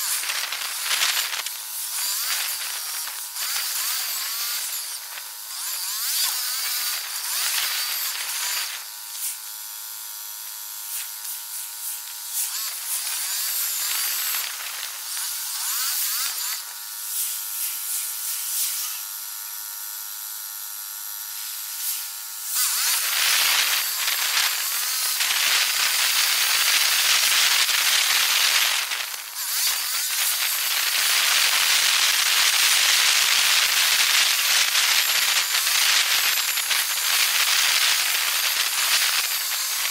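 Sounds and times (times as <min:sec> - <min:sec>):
steady buzzing tones: 0:00.0 - 0:39.9.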